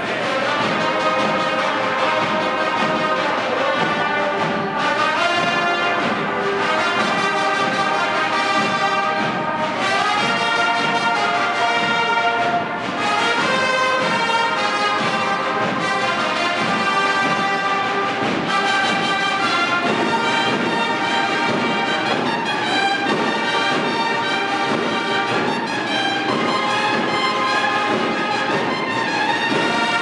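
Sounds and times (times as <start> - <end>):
brass band playing slow tune: 0.0 - 30.0.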